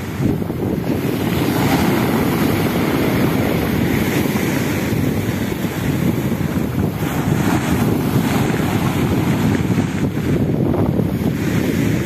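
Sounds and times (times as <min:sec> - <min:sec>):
surf washing over pebbles: 0:00.0 - 0:12.0
wind buffeting microphone: 0:00.0 - 0:12.0.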